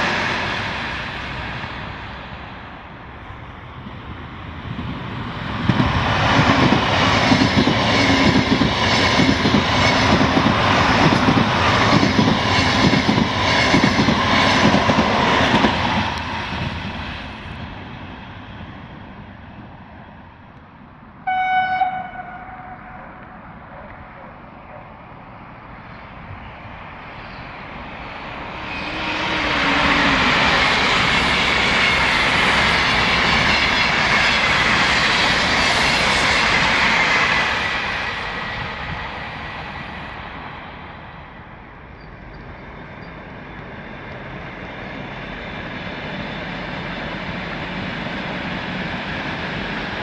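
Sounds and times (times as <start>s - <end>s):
distant train rumble: 0.0s - 50.0s
high-speed train passing: 0.0s - 50.0s.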